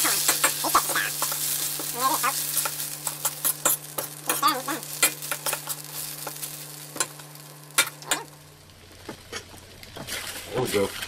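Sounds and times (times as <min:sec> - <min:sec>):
corn sizzling in butter: 0:00.0 - 0:11.0
steady hum: 0:00.0 - 0:11.0.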